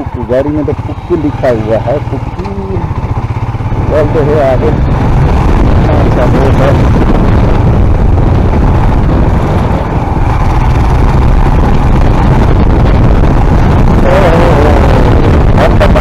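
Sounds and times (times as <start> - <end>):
motorcycle running: 0.0 - 16.0
wind rumbling on microphone: 0.0 - 16.0.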